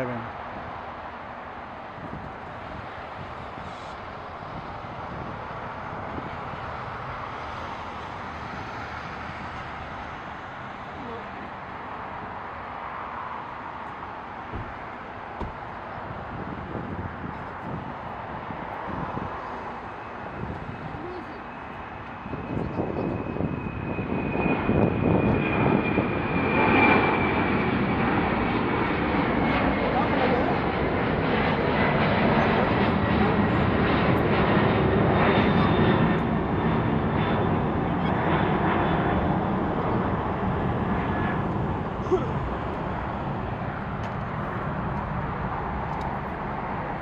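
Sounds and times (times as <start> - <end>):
distant jet engine rushing: 0.0 - 47.0.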